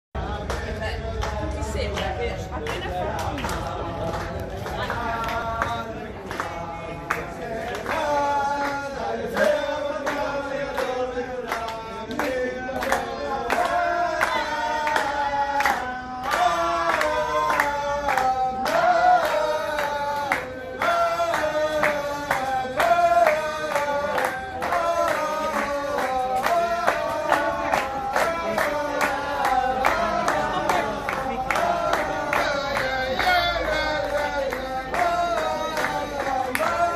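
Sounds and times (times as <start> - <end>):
men singing in unison: 0.2 - 36.9
rhythmic hand claps: 0.2 - 36.9.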